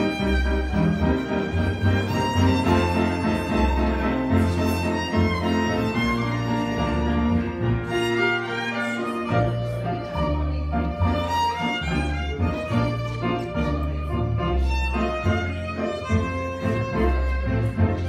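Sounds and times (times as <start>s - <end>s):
double bass notes: 0.0s - 18.0s
piano: 0.0s - 18.0s
violin melody: 0.0s - 18.0s.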